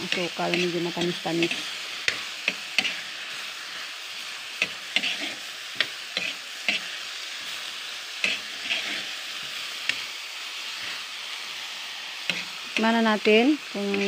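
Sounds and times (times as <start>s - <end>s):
spatula scraping a wok: 0.0s - 14.0s
vegetables sizzling in oil: 0.0s - 14.0s.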